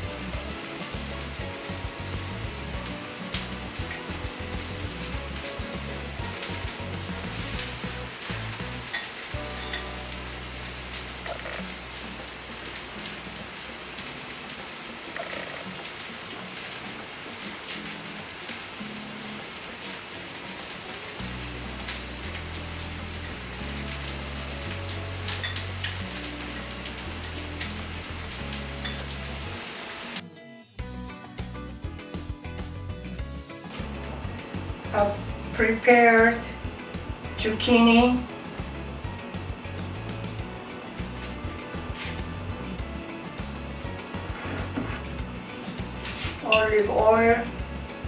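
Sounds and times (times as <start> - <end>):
background music with bass: 0.0 - 13.2, 21.2 - 29.7, 30.8 - 48.0
fish frying with crackles: 0.0 - 30.2, 33.2 - 48.0.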